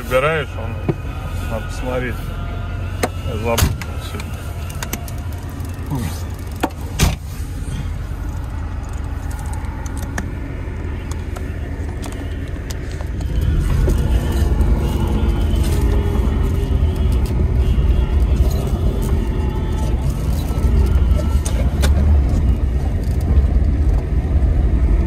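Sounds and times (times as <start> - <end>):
car engine rumbling and revving: 0.0 - 25.0.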